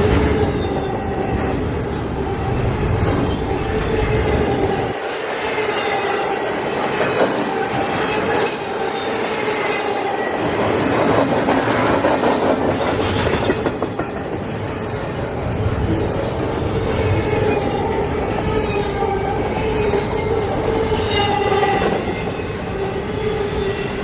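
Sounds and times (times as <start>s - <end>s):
freight train rumble: 0.0s - 24.0s.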